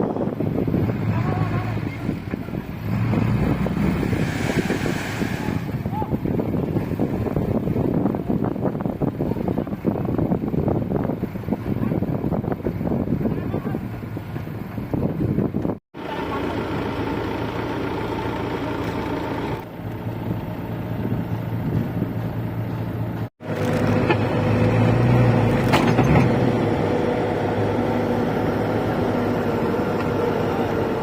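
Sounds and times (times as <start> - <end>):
vehicle engine running under load: 0.0 - 31.0.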